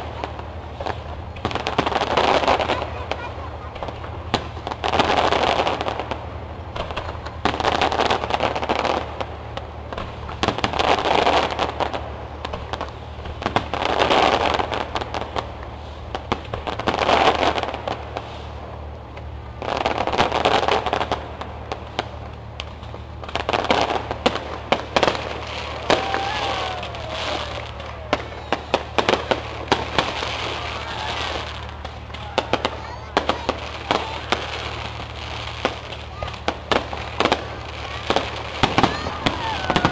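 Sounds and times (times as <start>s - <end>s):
crackling pops: 0.0s - 39.9s.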